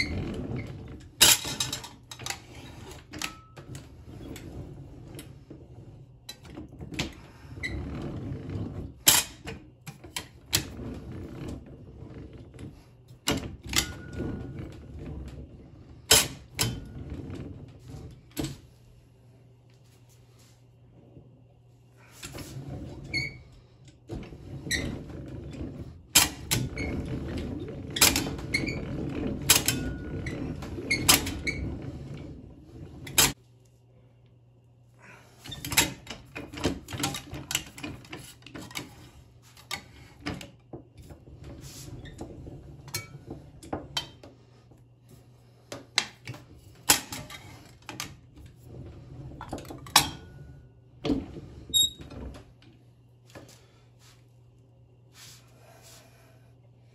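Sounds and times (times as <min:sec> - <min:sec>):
slip roll creaking and grinding: 0:00.0 - 0:18.7, 0:22.0 - 0:33.4, 0:35.4 - 0:44.4, 0:45.7 - 0:52.7.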